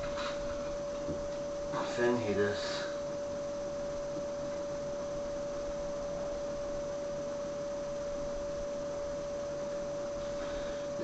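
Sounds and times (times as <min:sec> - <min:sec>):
steady electronic whine: 0:00.0 - 0:11.0.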